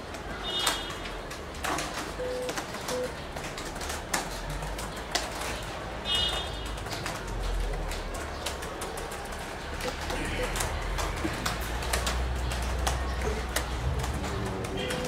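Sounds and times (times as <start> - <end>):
laptop keyboard typing: 0.0 - 15.0.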